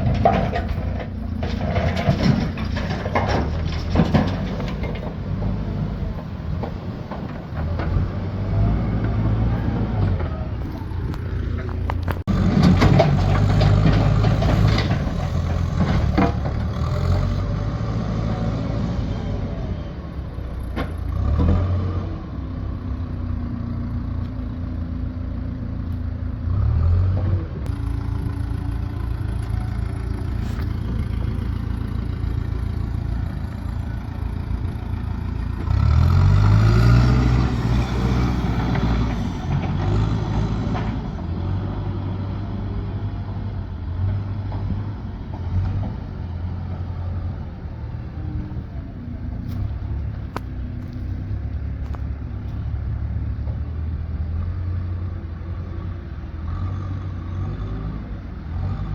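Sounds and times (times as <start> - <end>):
vehicle engine running: 0.0 - 21.4, 22.1 - 45.1, 45.8 - 53.8.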